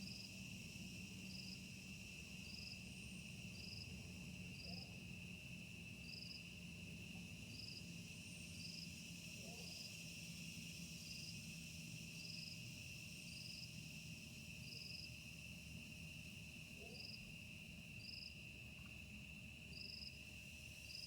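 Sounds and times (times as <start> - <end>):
crickets trilling: 0.0 - 21.0
high insect chirp: 0.0 - 21.0.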